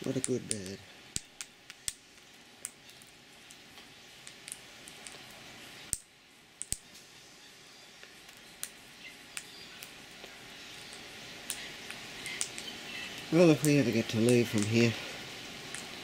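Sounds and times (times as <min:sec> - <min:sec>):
bird pecking and cracking seed: 0:00.2 - 0:05.3, 0:05.9 - 0:06.9, 0:08.0 - 0:14.8.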